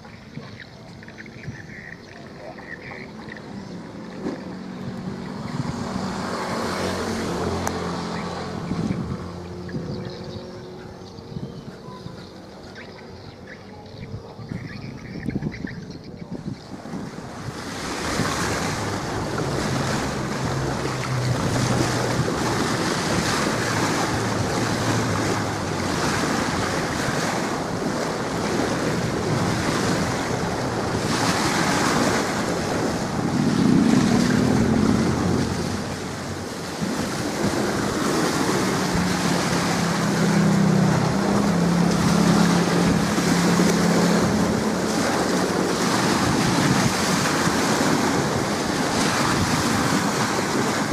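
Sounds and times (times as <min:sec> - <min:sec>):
choppy waves: 0:00.0 - 0:50.9
wind buffeting microphone: 0:00.0 - 0:50.9.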